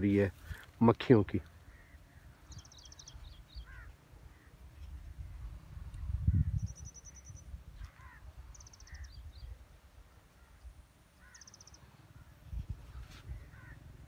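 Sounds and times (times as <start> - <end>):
lower bird chirps: 1.5 - 14.0.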